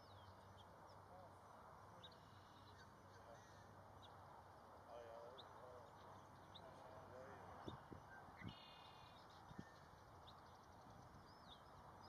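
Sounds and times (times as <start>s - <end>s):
faint distant voices: 0.4s - 10.6s.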